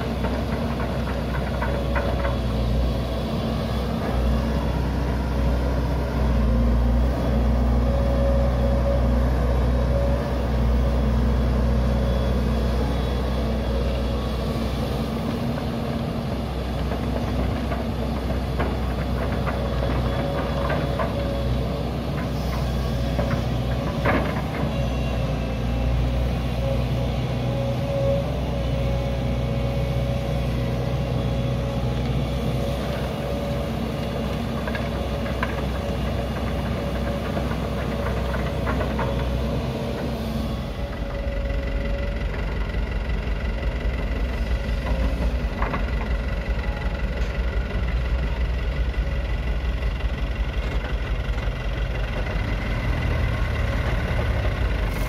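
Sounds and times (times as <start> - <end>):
dump truck engine idling: 0.0 - 55.0
excavator engine whining: 0.0 - 55.0.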